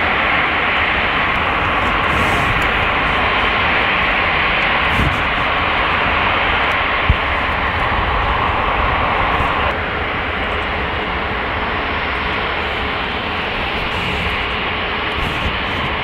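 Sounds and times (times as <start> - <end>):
jet engines taxiing: 0.0 - 16.0.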